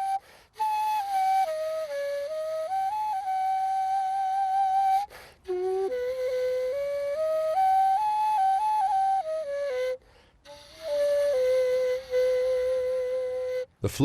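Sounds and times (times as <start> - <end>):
end-blown flute melody: 0.0 - 14.0.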